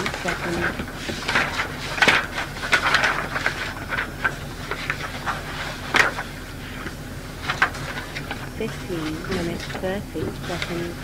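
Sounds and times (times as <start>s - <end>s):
paper rustling and clicking: 0.0s - 11.0s
tape hum and hiss: 0.0s - 11.0s.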